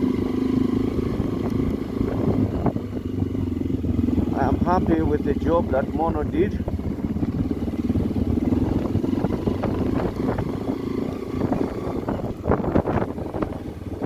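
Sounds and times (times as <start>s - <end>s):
motorcycle engine running: 0.0s - 14.0s
wind noise on microphone: 0.8s - 5.5s, 6.1s - 14.0s.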